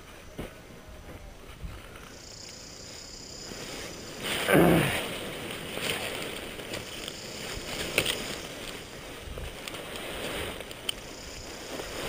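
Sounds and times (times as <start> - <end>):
rustling fabric and dry grass: 0.0 - 12.0.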